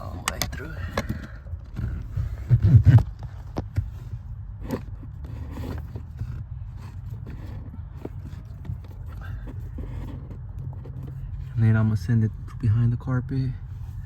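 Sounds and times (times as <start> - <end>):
wiring harness scraping and rustling: 0.0 - 11.9.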